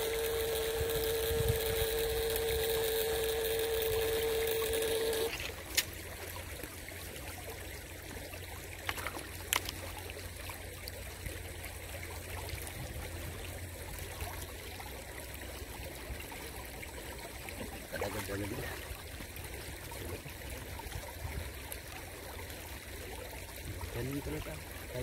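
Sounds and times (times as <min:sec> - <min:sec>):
water trickling: 0:00.0 - 0:25.0.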